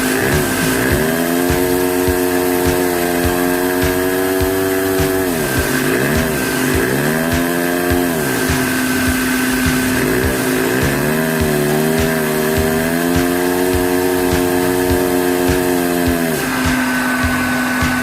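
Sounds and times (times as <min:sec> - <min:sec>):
regular ticking: 0:00.0 - 0:18.0
small engine mechanical hum: 0:00.0 - 0:18.0.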